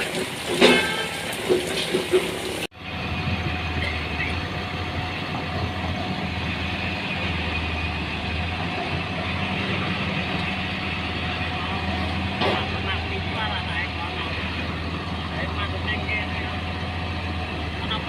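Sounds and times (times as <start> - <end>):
heavy vehicle engine droning: 2.6 - 18.0.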